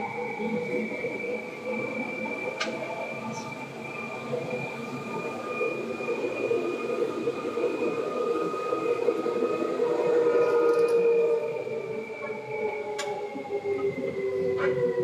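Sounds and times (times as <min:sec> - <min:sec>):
train wheels rumbling on rail: 0:00.0 - 0:15.0
whining tones from running gear: 0:00.0 - 0:15.0.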